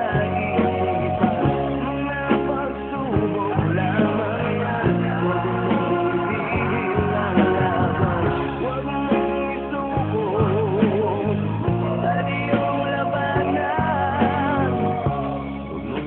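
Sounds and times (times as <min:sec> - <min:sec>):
band accompaniment with steady beat: 0:00.0 - 0:16.0
person singing: 0:00.0 - 0:16.0.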